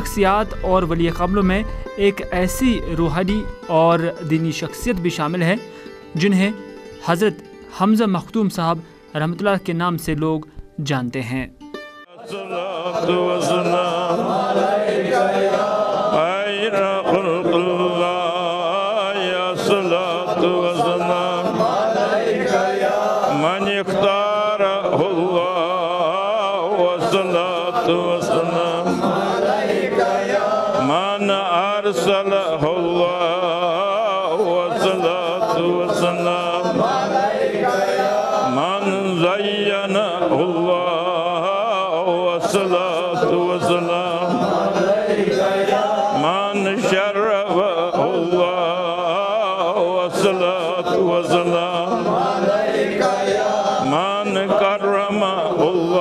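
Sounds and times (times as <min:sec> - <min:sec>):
men chanting: 0:00.0 - 0:04.0, 0:12.1 - 0:56.0.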